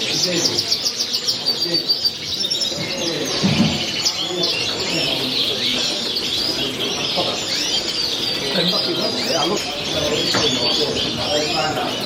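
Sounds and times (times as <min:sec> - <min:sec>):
caged birds chirping and twittering: 0:00.0 - 0:12.0.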